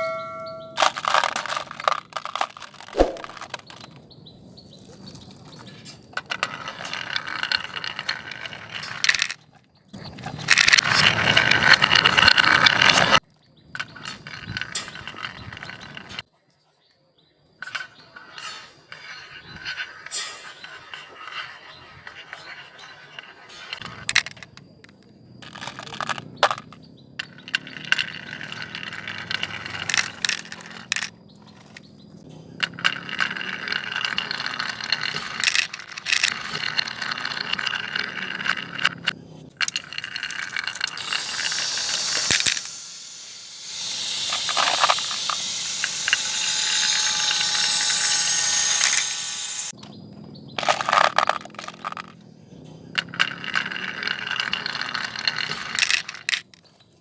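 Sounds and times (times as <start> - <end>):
marbles clicking on wood: 0.7 - 4.0, 5.4 - 13.2, 13.8 - 16.2, 17.6 - 49.8, 50.6 - 52.2, 52.8 - 56.7
marbles rolling down wooden run: 0.7 - 4.0, 5.1 - 13.2, 13.8 - 16.2, 17.6 - 49.8, 50.6 - 52.2, 52.8 - 56.7.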